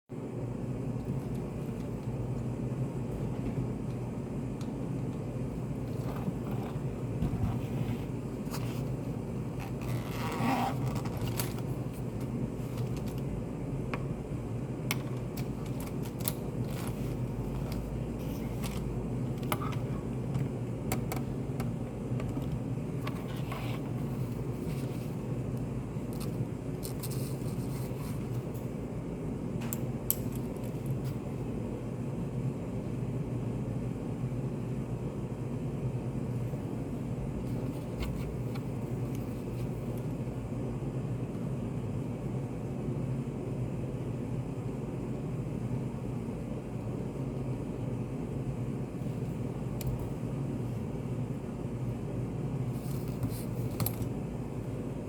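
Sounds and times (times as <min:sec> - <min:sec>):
low room hum: 0:00.1 - 0:55.0.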